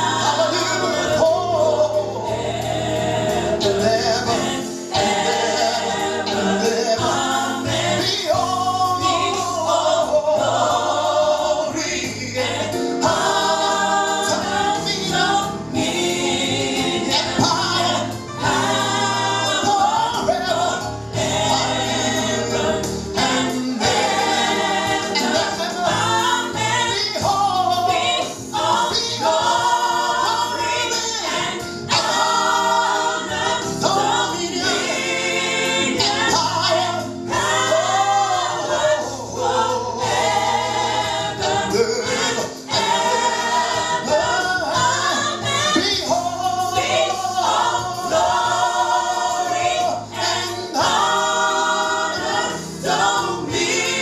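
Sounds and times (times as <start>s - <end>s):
choir and congregation singing: 0.0s - 54.0s
instrumental accompaniment: 0.0s - 54.0s.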